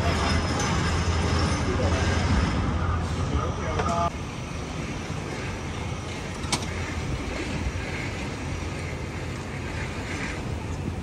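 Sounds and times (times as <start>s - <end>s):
hum of road traffic: 0.0s - 11.0s.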